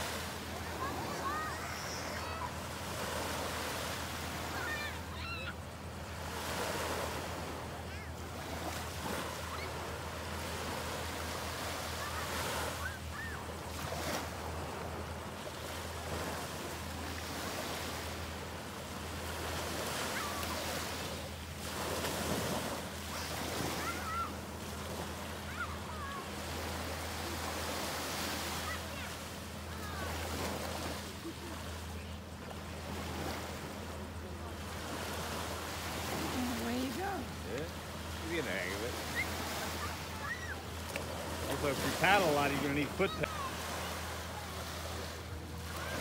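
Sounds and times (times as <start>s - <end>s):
small waves washing on sand: 0.0s - 46.0s.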